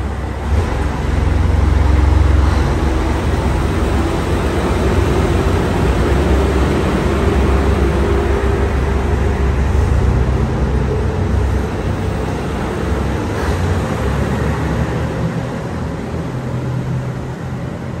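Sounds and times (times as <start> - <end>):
passenger train rumbling past: 0.0 - 18.0.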